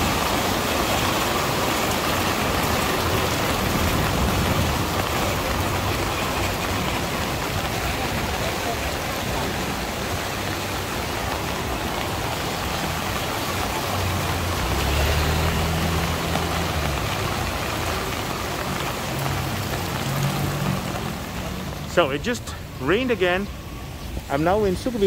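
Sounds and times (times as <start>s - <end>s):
vehicle engine hum passing: 0.0s - 24.3s
steady rain falling: 0.0s - 25.0s.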